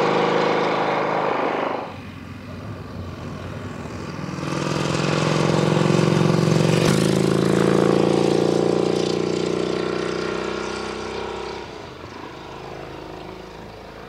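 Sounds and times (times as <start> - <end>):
motorcycle engine riding away: 0.0 - 14.0.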